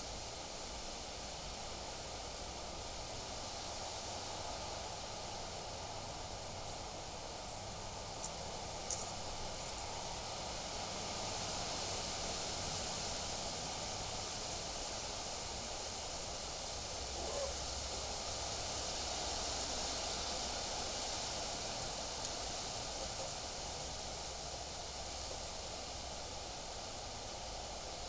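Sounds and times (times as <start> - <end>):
wind rustling foliage: 0.4 - 28.0.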